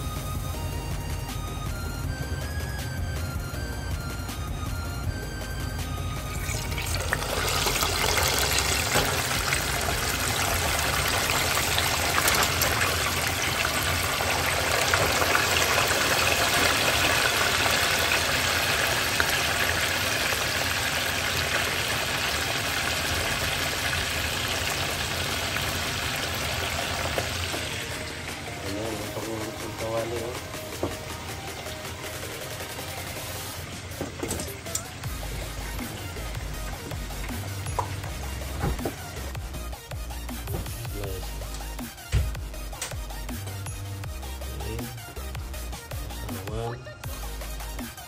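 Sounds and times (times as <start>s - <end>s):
oil sizzling and crackling: 6.2s - 46.1s.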